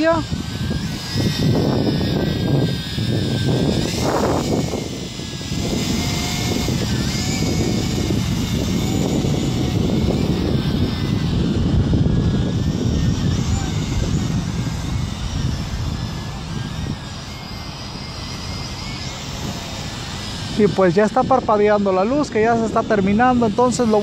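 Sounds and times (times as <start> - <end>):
toy drone rotors whining: 0.0 - 24.0
wind rumble on microphone: 0.0 - 24.0.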